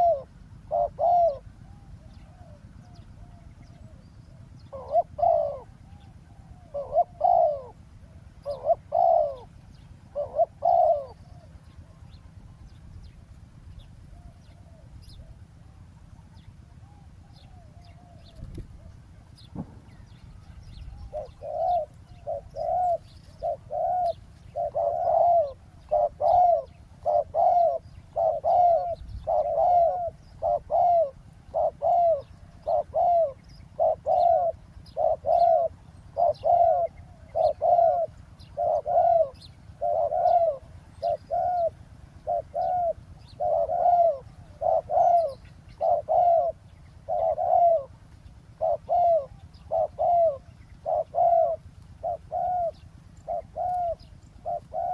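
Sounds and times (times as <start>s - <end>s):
doves cooing: 0.0s - 54.9s
low steady rumble: 0.0s - 54.9s
small birds chirping: 0.0s - 54.9s.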